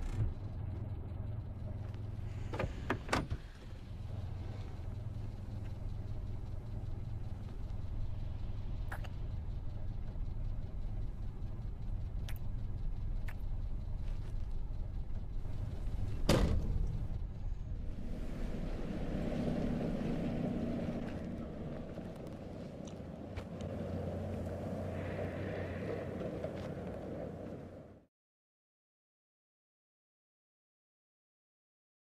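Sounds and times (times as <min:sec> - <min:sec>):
car engine rumbling: 0:00.0 - 0:28.1.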